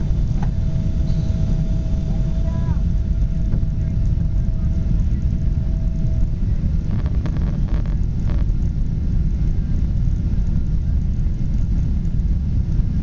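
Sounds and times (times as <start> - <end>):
jet airliner rumble: 0.0 - 13.0.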